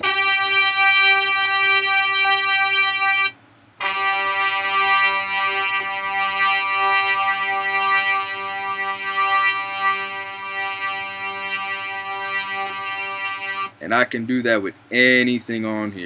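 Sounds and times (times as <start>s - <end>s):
pulsing wavering synth note: 0.0s - 13.7s
synthesizer held note: 0.0s - 13.8s.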